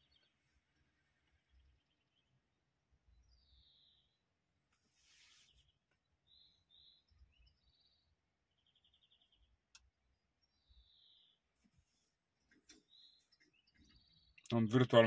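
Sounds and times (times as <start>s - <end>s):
faint bird chirps and trills: 0.0s - 15.0s.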